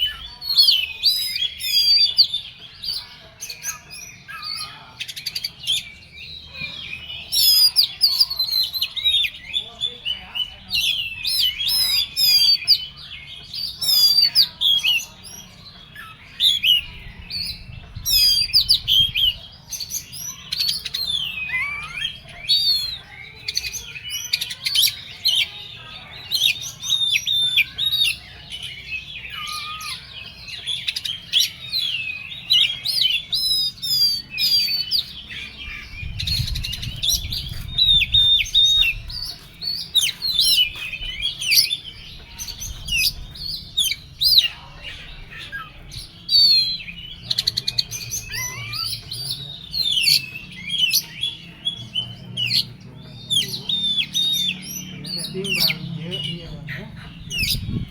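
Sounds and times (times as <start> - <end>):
bird singing whistles and trills: 0.0 - 57.9.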